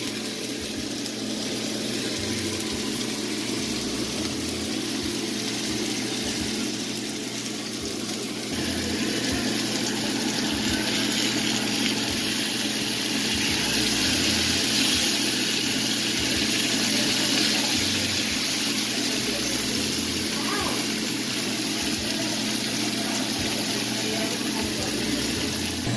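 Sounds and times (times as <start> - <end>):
fish fillets sizzling in a pan: 0.0 - 25.9.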